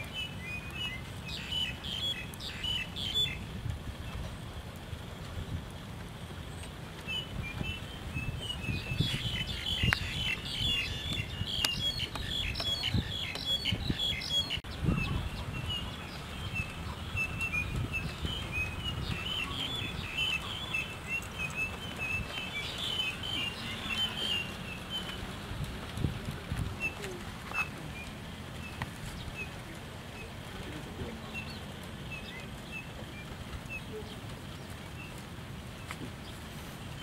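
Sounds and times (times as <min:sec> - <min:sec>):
small birds chirping: 0:00.0 - 0:05.7, 0:06.3 - 0:37.0.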